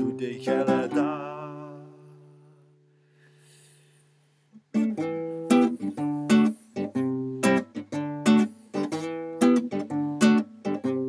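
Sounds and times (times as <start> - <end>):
classical guitar strumming: 0.0 - 2.9, 4.6 - 11.0.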